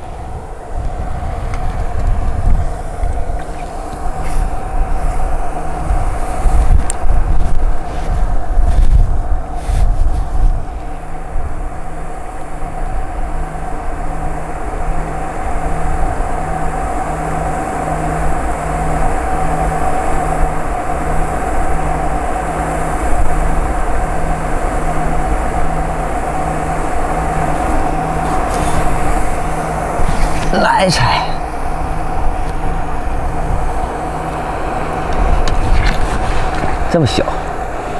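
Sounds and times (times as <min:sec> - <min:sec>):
mechanical hum with pulse: 0:00.0 - 0:37.9
wind gusting on microphone: 0:00.0 - 0:37.9.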